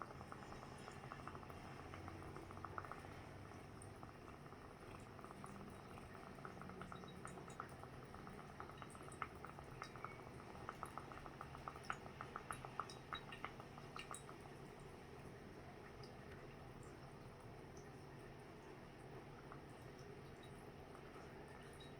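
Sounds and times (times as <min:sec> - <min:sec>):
dry ice bubbling in water: 0:00.0 - 0:21.9.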